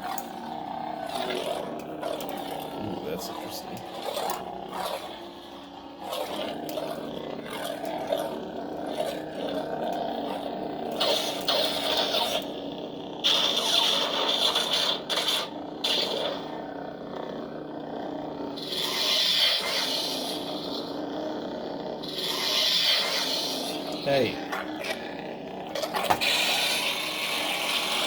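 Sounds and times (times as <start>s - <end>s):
lightsaber blade hum: 0.0s - 17.5s, 18.5s - 21.2s, 22.0s - 28.0s.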